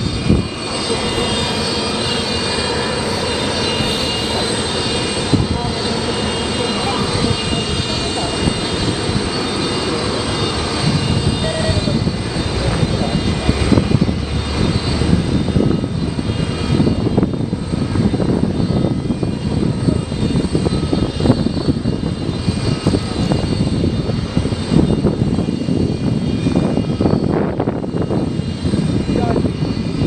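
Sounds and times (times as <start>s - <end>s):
high whining tones: 0.0s - 30.0s
jet engines rumbling: 0.0s - 30.0s.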